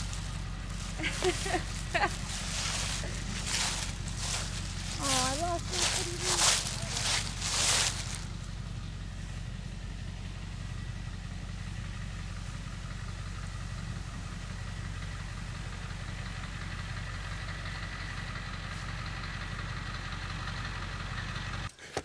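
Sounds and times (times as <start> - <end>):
engine idling: 0.0 - 21.8.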